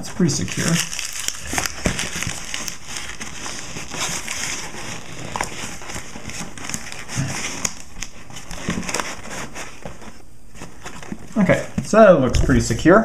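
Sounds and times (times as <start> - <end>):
newspaper crinkling and rustling: 0.0 - 12.0.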